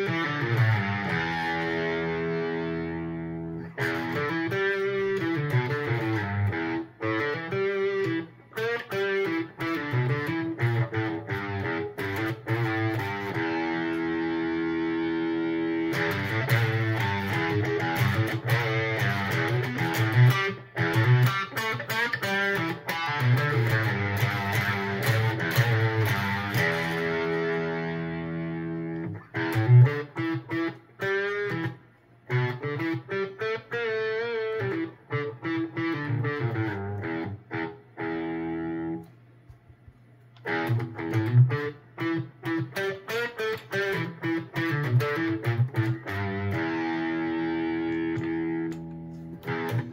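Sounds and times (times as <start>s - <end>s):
distorted electric guitar: 0.0s - 39.1s, 40.4s - 49.9s.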